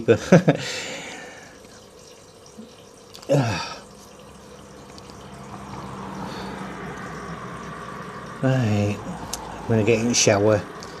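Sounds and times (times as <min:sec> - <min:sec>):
steady low hum: 0:00.6 - 0:11.0.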